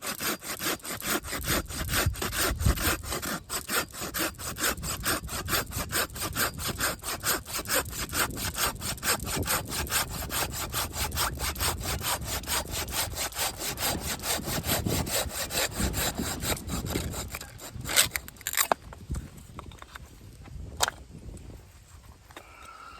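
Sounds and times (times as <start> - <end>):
hand saw cutting wood: 0.0 - 18.8.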